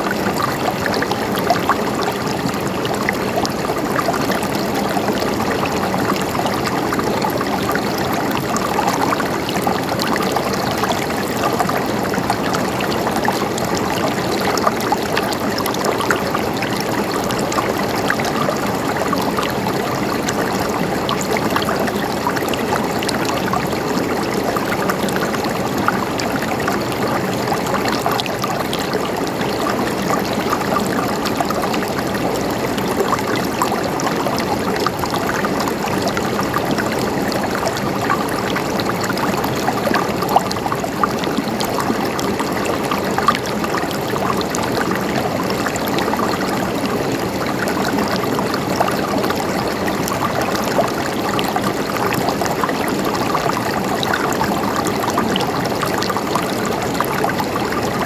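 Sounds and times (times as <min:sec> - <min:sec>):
stream running and gurgling: 0:00.0 - 0:58.0.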